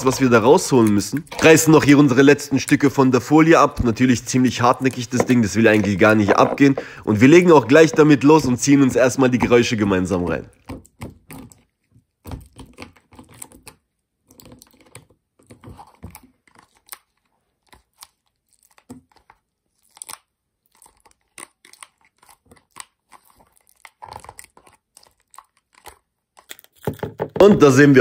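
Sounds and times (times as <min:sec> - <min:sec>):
slime squelching and tearing: 0:00.0 - 0:26.8.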